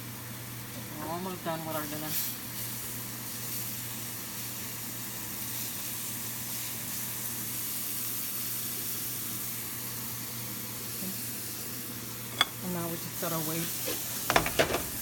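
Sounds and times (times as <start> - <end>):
food sizzling in butter: 0.5 - 15.0.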